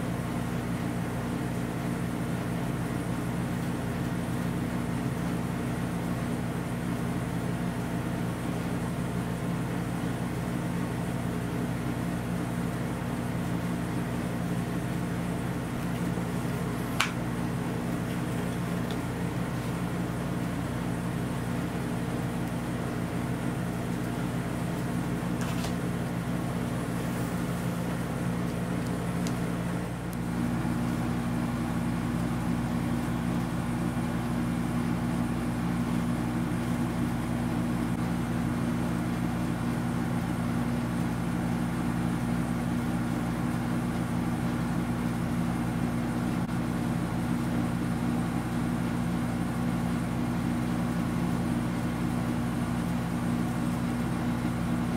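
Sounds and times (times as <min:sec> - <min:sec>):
low mechanical hum: 0:00.0 - 0:54.9.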